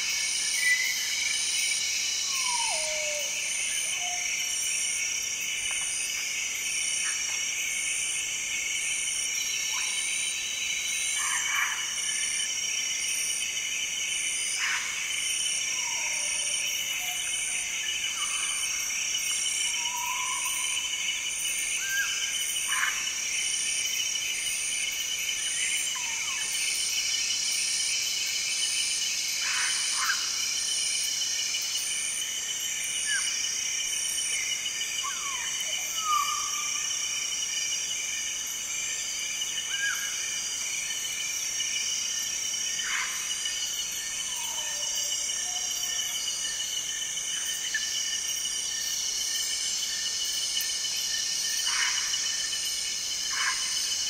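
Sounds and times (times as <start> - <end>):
insect chorus buzzing: 0.0 - 54.0.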